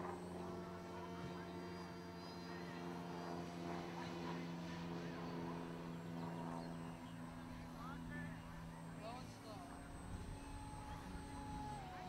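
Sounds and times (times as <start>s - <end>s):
low mechanical hum: 0.0s - 12.0s
faint voices: 0.4s - 12.0s.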